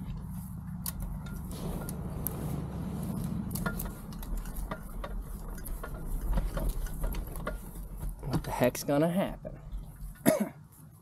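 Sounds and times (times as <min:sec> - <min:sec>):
paramotor low rumble: 0:00.0 - 0:10.2.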